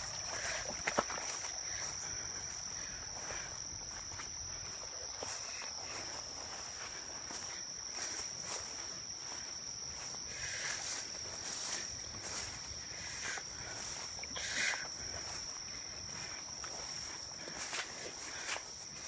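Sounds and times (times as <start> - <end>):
faint ticks and rustles: 0.0 - 19.0
high-pitched insect drone: 0.0 - 19.0.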